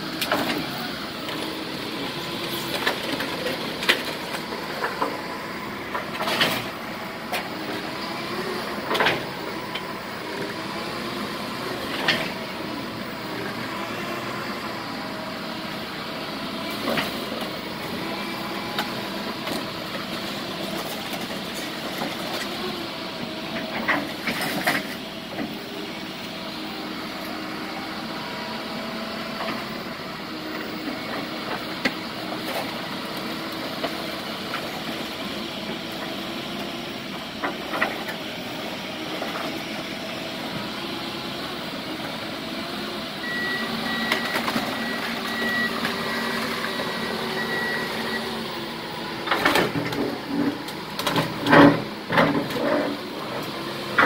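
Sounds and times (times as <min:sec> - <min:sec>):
heavy machinery engine running: 0:00.0 - 0:54.0.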